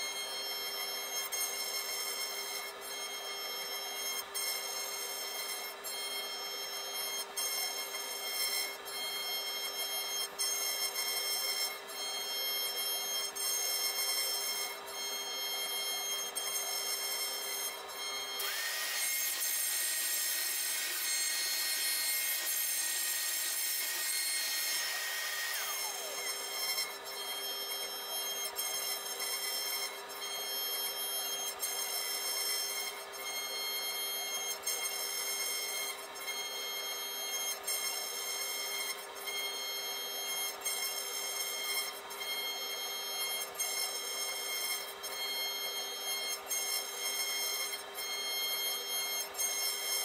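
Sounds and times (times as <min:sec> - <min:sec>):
router spindle whining: 0:00.0 - 0:50.0.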